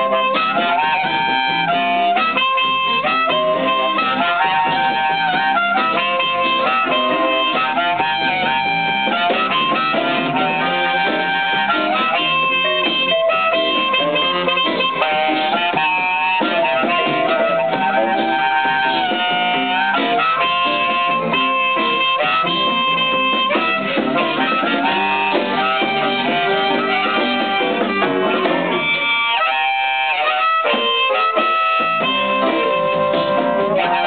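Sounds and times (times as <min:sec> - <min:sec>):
harmonica bending notes: 0:00.0 - 0:34.0
live soul band playing: 0:00.0 - 0:34.0.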